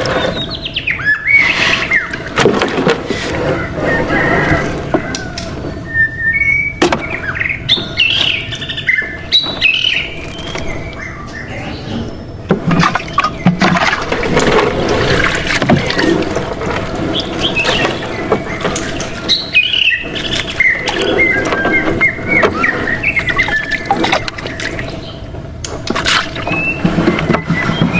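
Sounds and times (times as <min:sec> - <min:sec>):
small birds chirping: 0:00.0 - 0:02.3, 0:05.8 - 0:14.2, 0:15.2 - 0:27.9.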